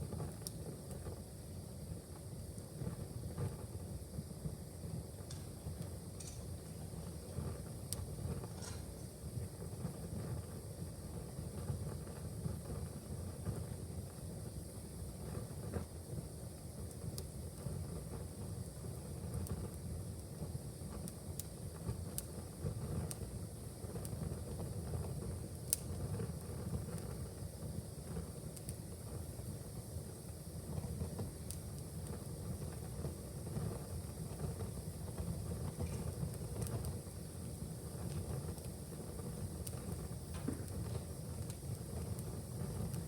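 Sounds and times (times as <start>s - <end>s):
low fire rumble: 0.0s - 43.0s
wood fire crackling: 0.0s - 43.0s.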